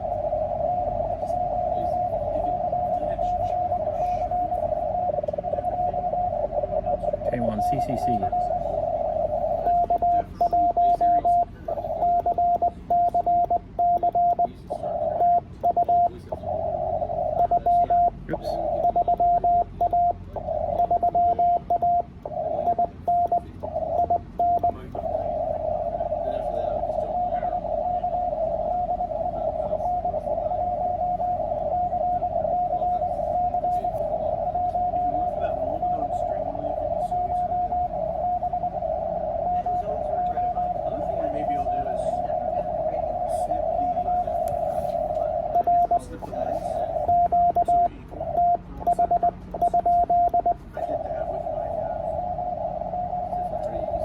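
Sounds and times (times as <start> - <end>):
morse code tone: 0.0 - 54.0
radio receiver hiss: 0.0 - 54.0.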